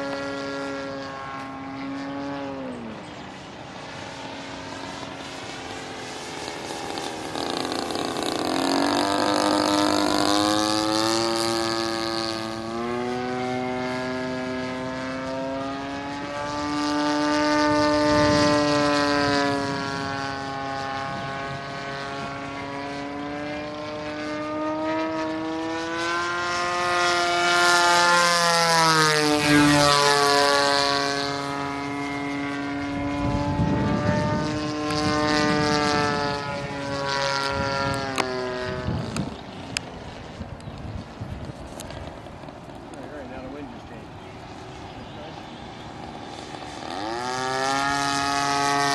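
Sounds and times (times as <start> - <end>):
model plane engine and propeller: 0.0 - 48.9.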